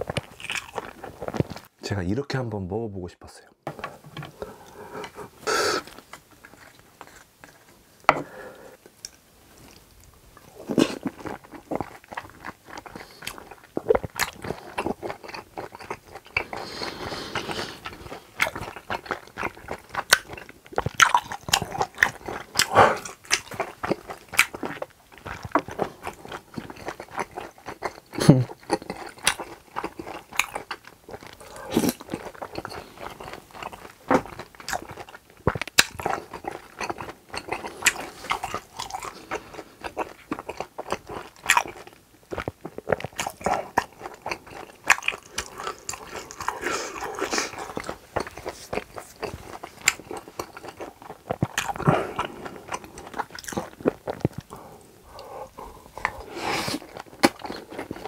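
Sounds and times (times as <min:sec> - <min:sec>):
close chewing with wet mouth sounds: 0:00.0 - 0:01.8, 0:04.4 - 0:07.8, 0:08.8 - 0:58.0.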